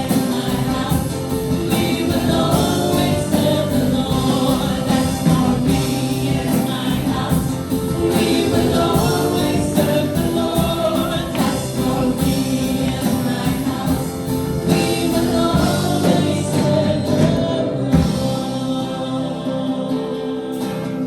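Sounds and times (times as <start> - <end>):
group singing worship song: 0.0 - 21.0.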